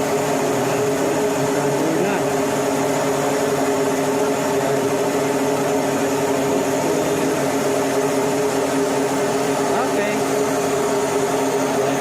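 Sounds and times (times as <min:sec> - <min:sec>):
marine engine humming: 0:00.0 - 0:12.0.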